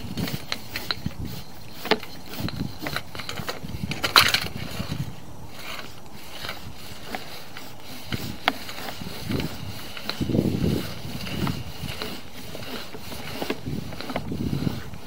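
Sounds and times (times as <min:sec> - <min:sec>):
cable clicks and knocks: 0:00.0 - 0:15.0
scraping rush in pipe: 0:00.0 - 0:15.0.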